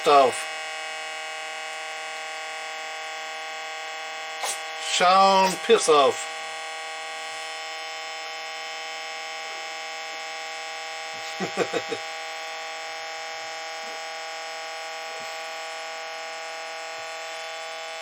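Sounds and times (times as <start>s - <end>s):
cooling fan whine: 0.0s - 18.0s.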